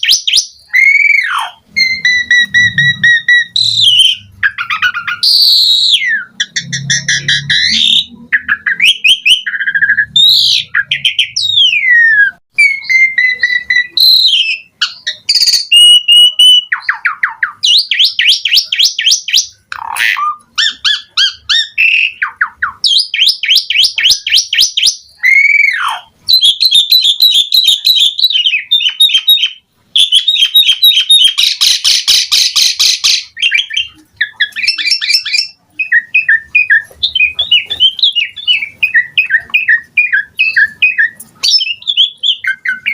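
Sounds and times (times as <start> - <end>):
starling singing varied song: 0.0 - 42.9.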